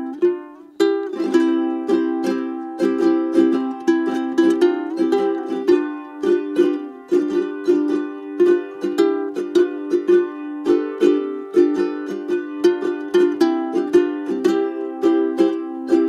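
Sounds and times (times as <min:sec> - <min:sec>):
strummed strings music: 0:00.0 - 0:16.0.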